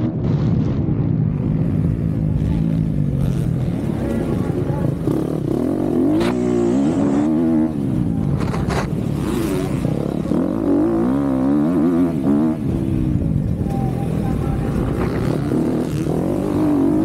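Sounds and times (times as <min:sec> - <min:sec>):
motocross bike engine revving: 0:01.4 - 0:17.0.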